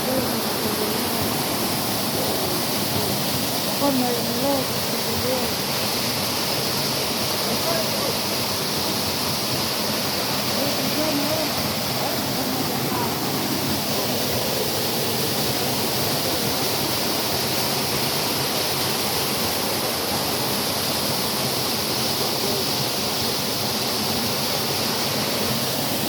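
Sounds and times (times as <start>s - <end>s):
water rushing into rock pool: 0.0s - 26.0s.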